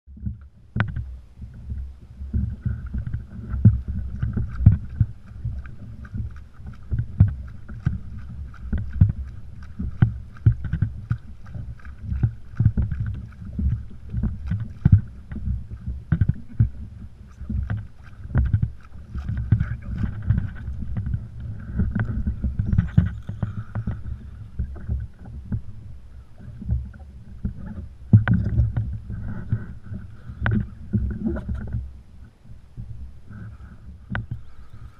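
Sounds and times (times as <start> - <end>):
water slapping against kayak hull: 0.1 - 32.0
wind rumble on microphone: 0.1 - 34.9.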